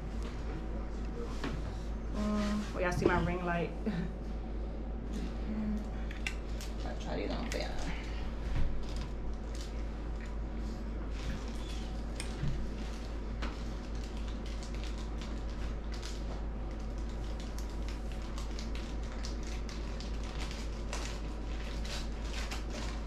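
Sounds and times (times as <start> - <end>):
low hum and hiss: 0.0 - 23.0.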